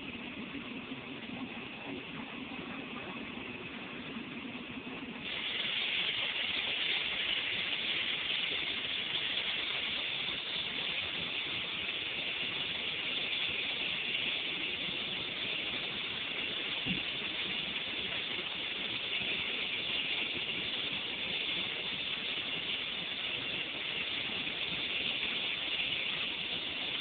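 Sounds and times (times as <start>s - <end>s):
airliner cabin engine rush: 0.0s - 27.0s.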